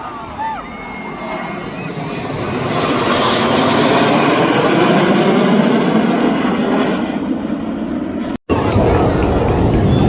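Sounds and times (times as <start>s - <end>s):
jet aircraft roaring past: 0.0s - 10.0s.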